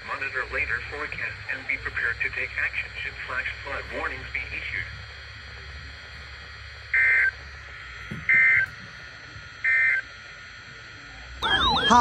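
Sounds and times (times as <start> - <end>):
buzzy digital data bursts: 0.0 - 12.0.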